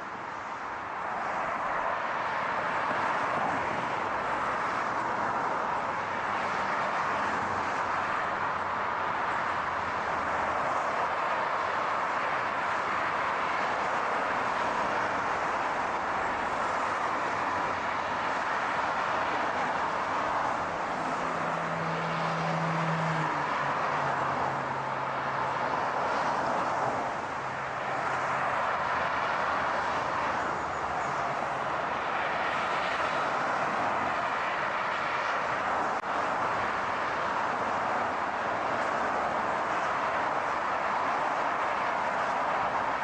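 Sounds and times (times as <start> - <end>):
road and wind noise: 0.0 - 43.0.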